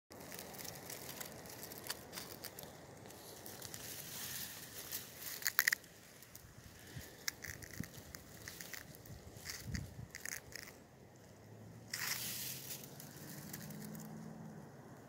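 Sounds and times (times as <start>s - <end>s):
dry grass rustling and crackling: 0.1s - 15.0s.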